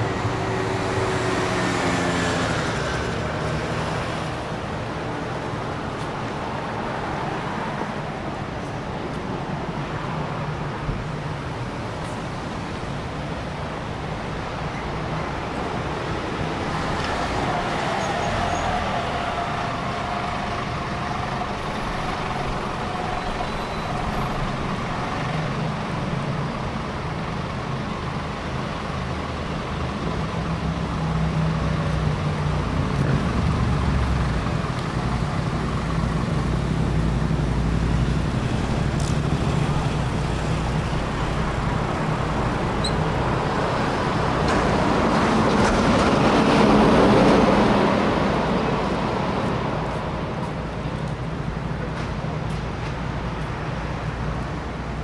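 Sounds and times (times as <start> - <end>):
passing cars and vehicles: 0.0 - 55.0.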